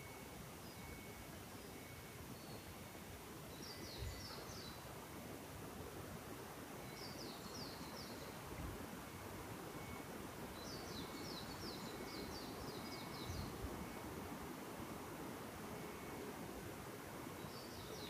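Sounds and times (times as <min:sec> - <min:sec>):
songbird singing: 0:00.0 - 0:18.0
wind rustling trees: 0:00.0 - 0:18.0.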